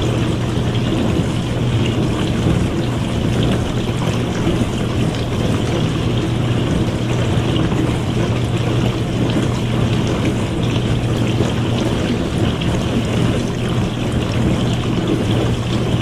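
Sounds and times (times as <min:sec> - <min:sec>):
dishwasher motor hum: 0:00.0 - 0:16.0
water splashing and trickling: 0:00.0 - 0:16.0.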